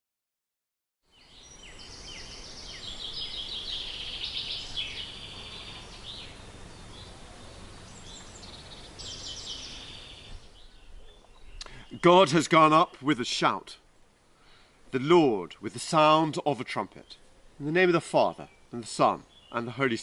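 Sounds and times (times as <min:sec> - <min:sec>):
songbirds chirping and trilling: 0:01.1 - 0:20.0.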